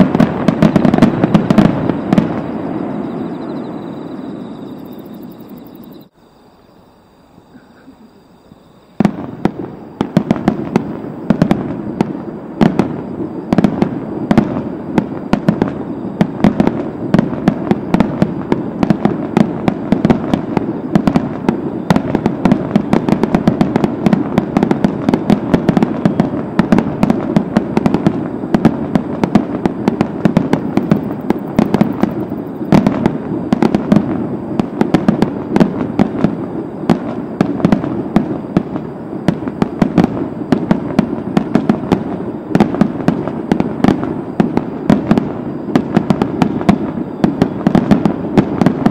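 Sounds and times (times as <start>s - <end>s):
fireworks bursts and crackles: 0.0s - 6.2s, 8.9s - 48.9s.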